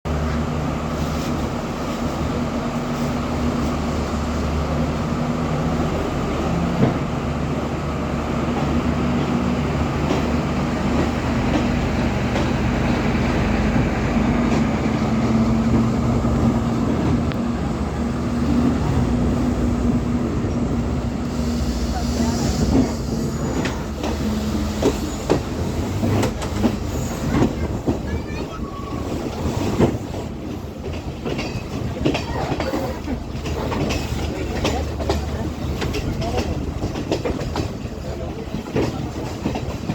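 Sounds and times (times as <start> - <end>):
train diesel engine running: 0.1 - 39.9
train rumble: 0.1 - 39.9.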